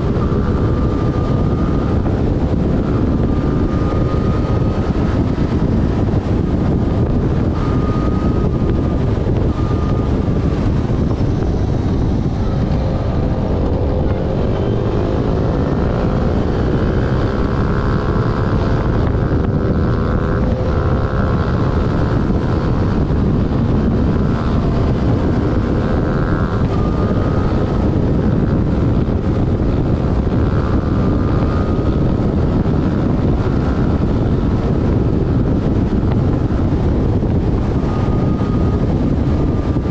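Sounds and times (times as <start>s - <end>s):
heavy wind buffeting: 0.0s - 39.9s
motorcycle engine running: 0.0s - 39.9s.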